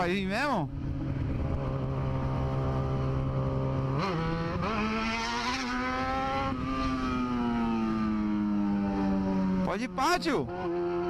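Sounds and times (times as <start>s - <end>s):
motorcycle engine revving: 0.7s - 11.0s.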